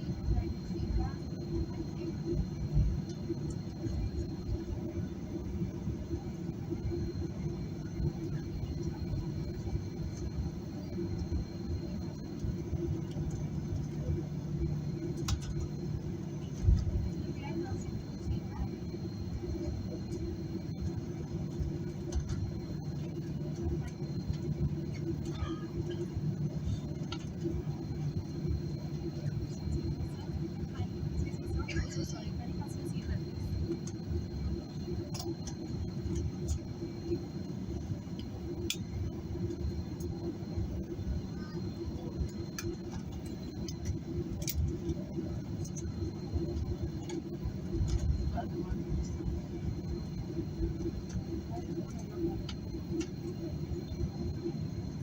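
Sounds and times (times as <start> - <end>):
airplane engines rumbling: 0.0 - 55.0
faint high whine: 0.0 - 55.0.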